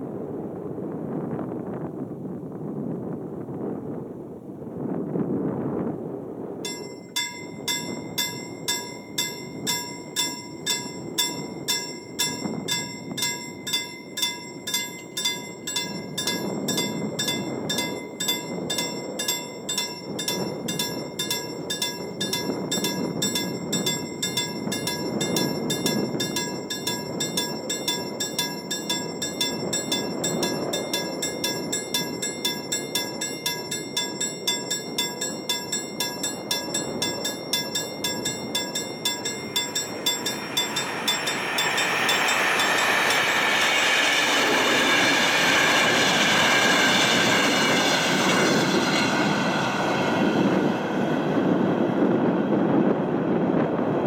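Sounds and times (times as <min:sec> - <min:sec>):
level crossing warning bell: 0:06.7 - 0:51.6
low wavering noise: 0:06.7 - 0:54.0.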